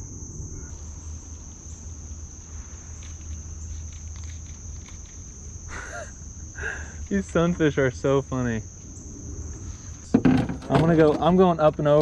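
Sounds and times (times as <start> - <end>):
constant low rumble: 0.0 - 12.0
insects chorus shrill: 0.0 - 12.0.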